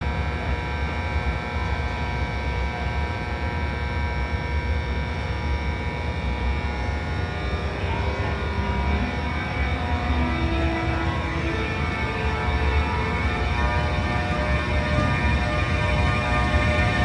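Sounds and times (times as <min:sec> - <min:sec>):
train rumbling and humming: 0:00.0 - 0:17.0.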